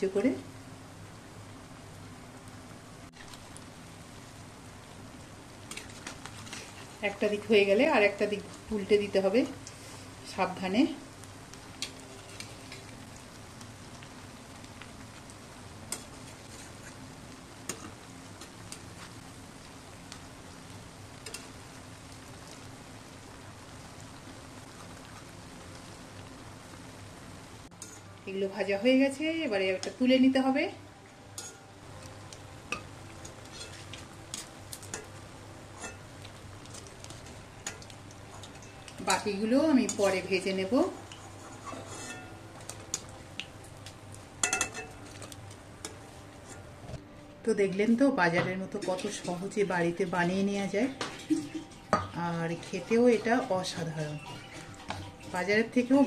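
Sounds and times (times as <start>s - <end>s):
food deep-frying in hot oil: 0.0s - 56.0s.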